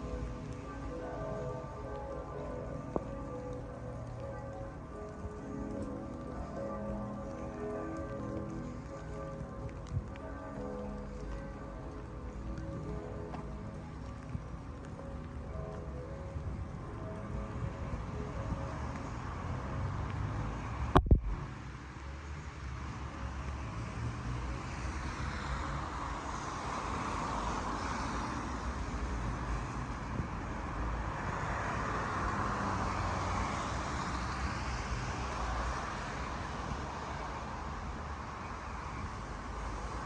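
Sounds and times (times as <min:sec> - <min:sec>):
cars passing on wet road: 0:00.0 - 0:40.0.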